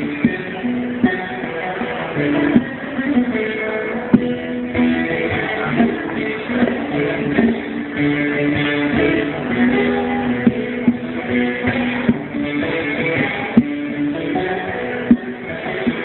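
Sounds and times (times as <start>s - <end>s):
plucked string folk music: 0.0s - 16.0s.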